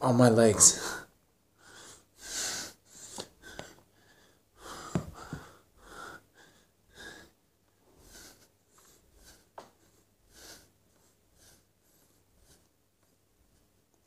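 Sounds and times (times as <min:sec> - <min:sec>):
man breathing heavily: 0:00.6 - 0:12.8.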